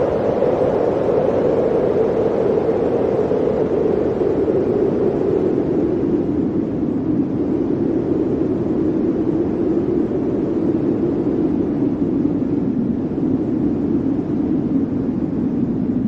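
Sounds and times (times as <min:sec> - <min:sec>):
blizzard wind howling: 0:00.0 - 0:16.0.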